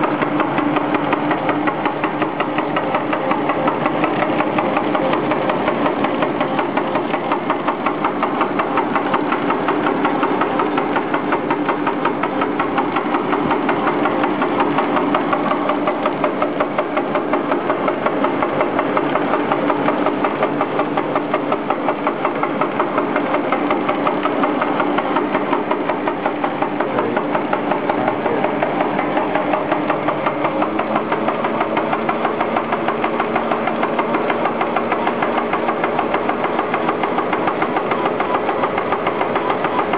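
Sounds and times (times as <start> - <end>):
industrial machine pulsing: 0.0 - 39.9.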